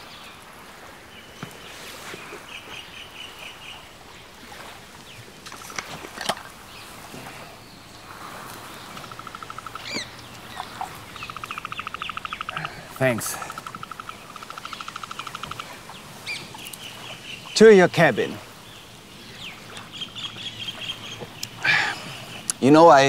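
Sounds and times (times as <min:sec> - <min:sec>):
bird calls: 0:01.1 - 0:23.0.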